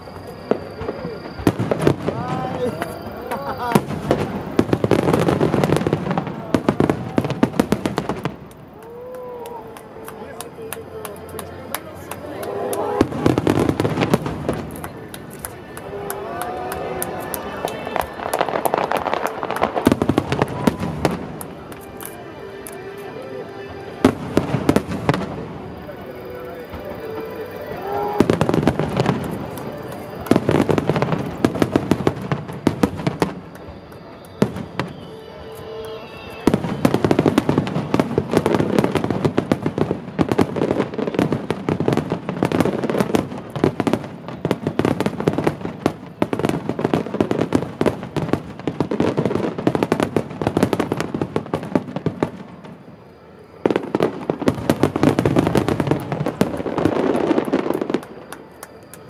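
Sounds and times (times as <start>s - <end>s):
fireworks bursts and crackle: 0.0s - 59.0s.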